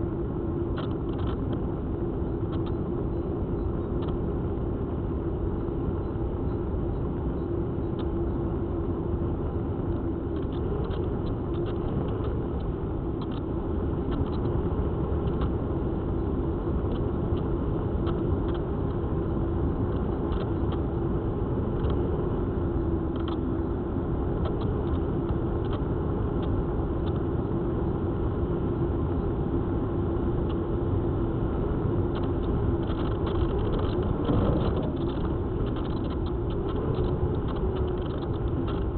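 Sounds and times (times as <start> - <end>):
airflow rumble on microphone: 7.6 - 38.9.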